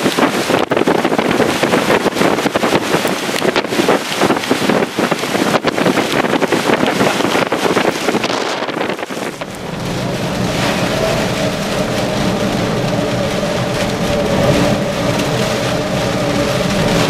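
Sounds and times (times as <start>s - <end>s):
driving rain: 0.0s - 17.0s
rain on windshield: 0.0s - 17.0s
vehicle engine hum: 0.0s - 17.0s
wind gusting against microphone: 0.0s - 17.0s.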